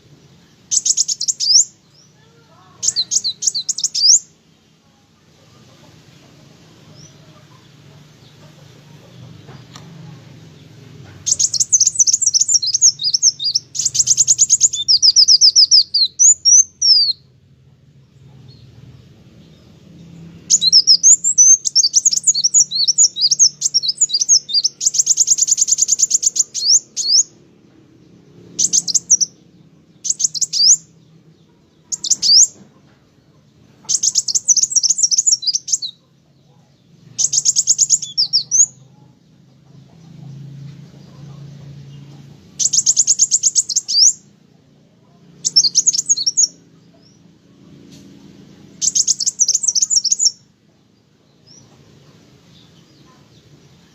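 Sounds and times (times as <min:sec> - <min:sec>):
bird chirping trills: 0:00.0 - 0:53.9
faint low hum: 0:00.0 - 0:53.9.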